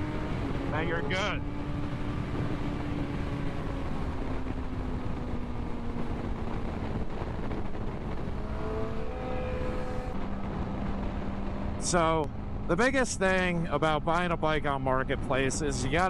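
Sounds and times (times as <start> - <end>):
motorcycle engine cruising: 0.0 - 16.0
wind and road rush: 0.0 - 16.0.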